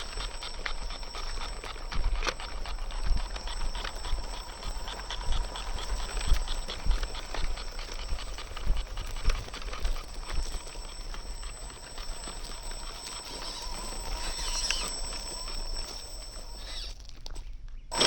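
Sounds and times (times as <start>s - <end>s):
electric motor whine: 0.0s - 17.1s.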